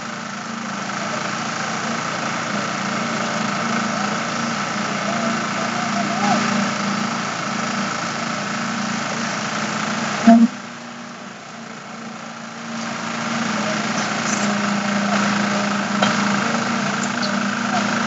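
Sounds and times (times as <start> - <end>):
machinery engine humming: 0.0 - 18.0.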